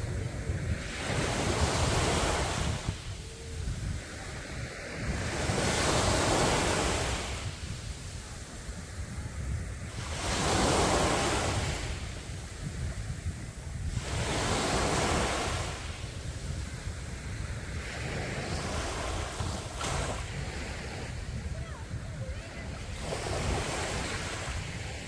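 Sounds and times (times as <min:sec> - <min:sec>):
sea waves breaking on shore: 0:00.0 - 0:25.0
wind rumble on microphone: 0:00.0 - 0:25.0.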